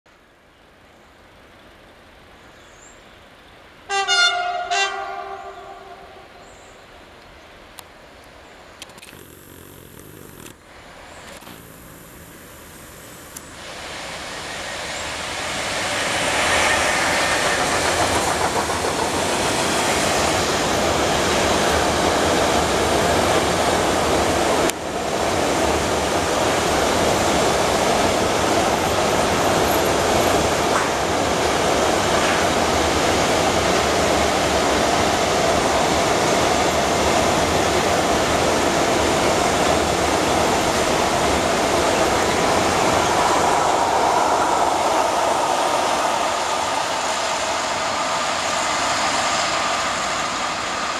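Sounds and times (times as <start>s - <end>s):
train wheels running on rails: 8.8s - 50.9s.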